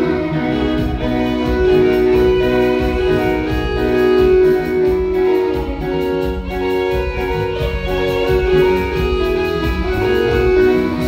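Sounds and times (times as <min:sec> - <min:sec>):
bass line: 0:00.0 - 0:11.0
keyboard string chords: 0:00.0 - 0:11.0.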